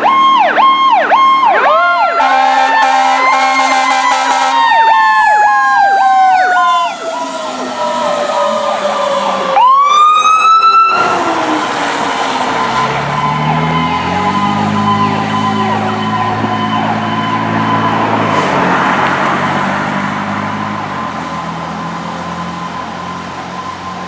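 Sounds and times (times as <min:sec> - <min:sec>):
emergency vehicle siren: 0:00.0 - 0:24.0
heavy truck engine: 0:00.0 - 0:24.0.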